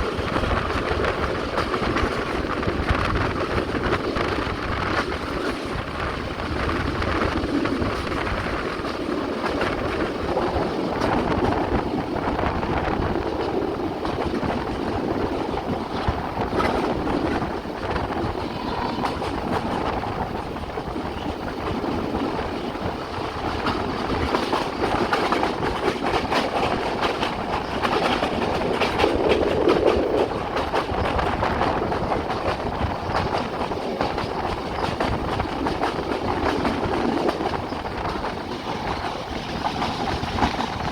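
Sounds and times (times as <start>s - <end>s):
train wheels rumbling on rail: 0.0s - 40.9s
wheels clicking over rail joints: 0.0s - 40.9s.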